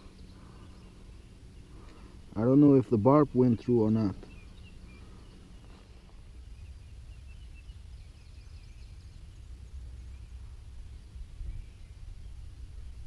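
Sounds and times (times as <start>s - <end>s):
faint bird chirps: 0.0s - 12.7s
low steady rumble: 0.0s - 13.0s.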